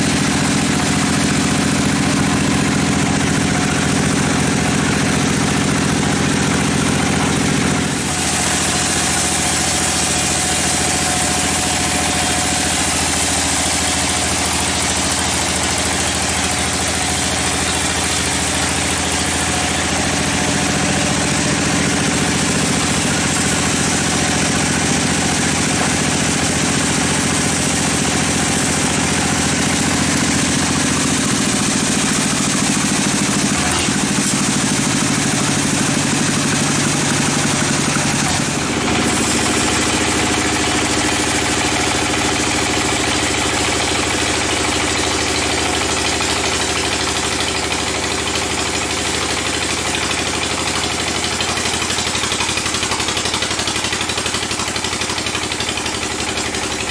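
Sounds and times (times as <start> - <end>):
band saw cutting log: 0.0 - 56.9.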